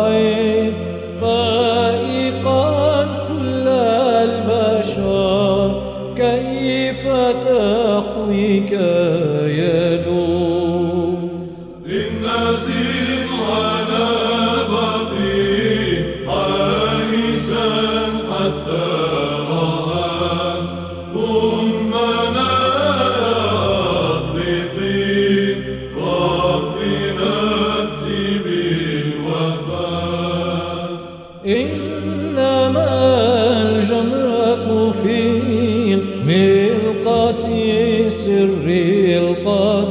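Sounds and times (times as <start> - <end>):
steady low drone: 0.0 - 39.9.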